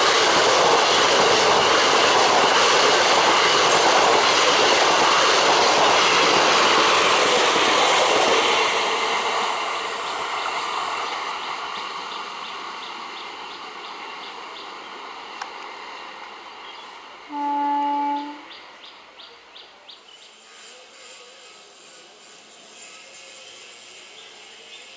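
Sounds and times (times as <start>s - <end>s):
train wheels clattering on rails: 0.0s - 24.9s.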